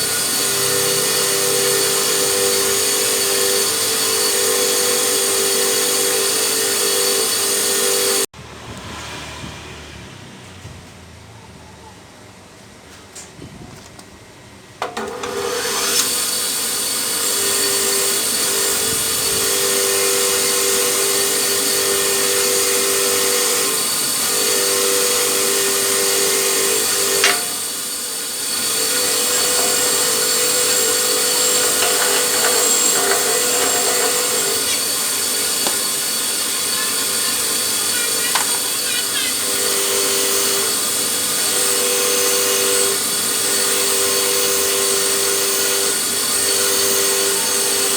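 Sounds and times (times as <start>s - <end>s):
electric power tool whining: 0.0s - 8.3s, 14.8s - 47.9s.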